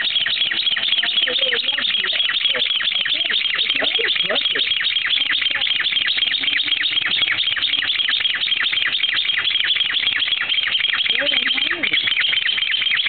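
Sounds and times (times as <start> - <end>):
bird rapid chirping call: 0.0 - 13.0.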